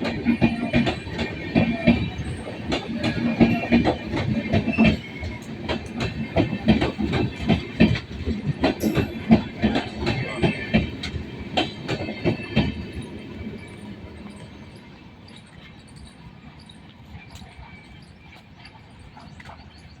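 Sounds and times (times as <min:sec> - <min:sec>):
train wheels clattering over rail joints: 0:00.0 - 0:19.6.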